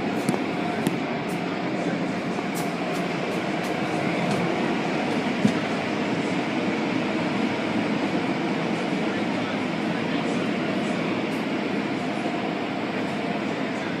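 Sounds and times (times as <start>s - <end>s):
car wash water spray and machinery: 0.0s - 14.0s.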